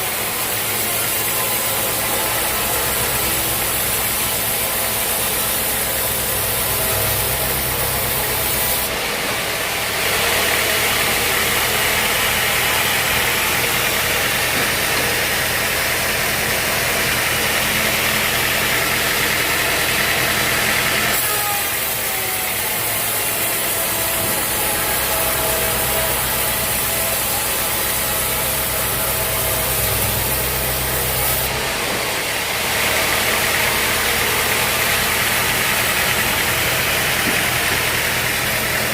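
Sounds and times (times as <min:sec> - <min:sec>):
saw cutting through log: 0:00.0 - 0:38.9
sawmill engine running: 0:00.0 - 0:38.9.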